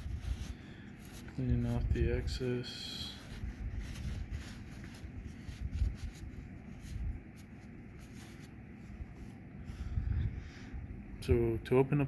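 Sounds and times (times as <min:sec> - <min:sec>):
rubbing and handling noises: 0:00.0 - 0:10.8.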